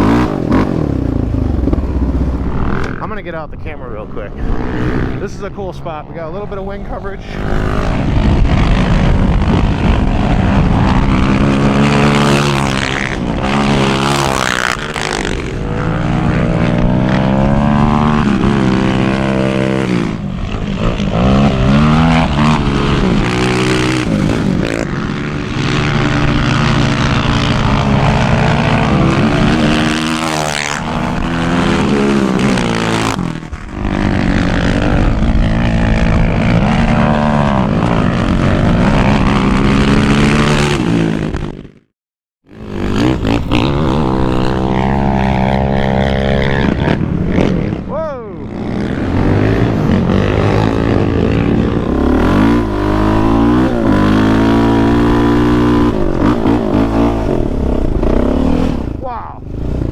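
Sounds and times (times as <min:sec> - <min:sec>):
gusty wind: 0:00.0 - 0:41.8, 0:42.5 - 0:59.9
quad engines revving: 0:00.0 - 0:41.8, 0:42.5 - 0:59.9.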